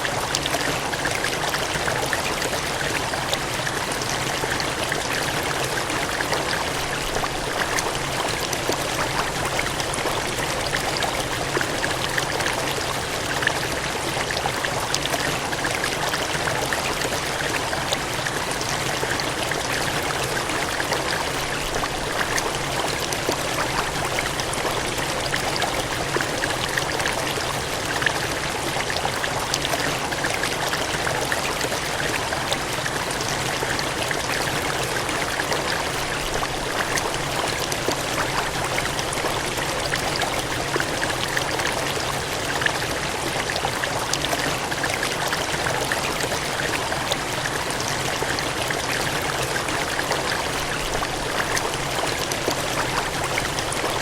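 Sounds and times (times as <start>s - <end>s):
water gushing and splashing: 0.0s - 54.0s.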